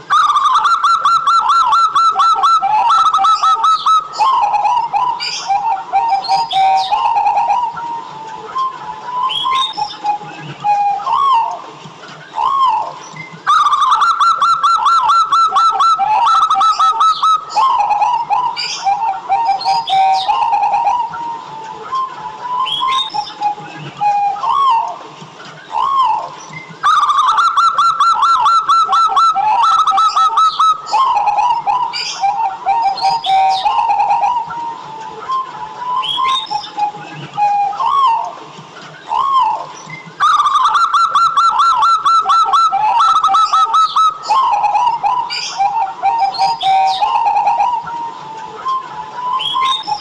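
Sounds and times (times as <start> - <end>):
dove cooing: 0.0 - 11.7, 12.3 - 25.0, 25.6 - 38.4, 39.0 - 50.0
small birds chirping: 0.0 - 38.3, 38.9 - 50.0
lower coo phrases: 0.0 - 50.0.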